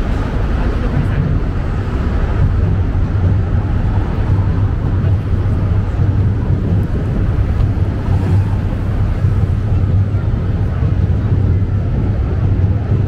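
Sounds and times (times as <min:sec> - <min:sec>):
busy city street noise: 0:00.0 - 0:13.0
passing cars: 0:00.0 - 0:13.0
wind buffeting microphone: 0:00.0 - 0:13.0.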